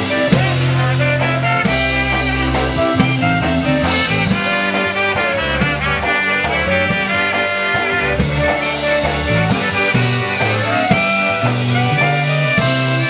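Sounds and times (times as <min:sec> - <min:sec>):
bass line: 0:00.0 - 0:13.0
steady drum beat: 0:00.0 - 0:13.0
trumpet and clarinet melody: 0:00.0 - 0:13.0.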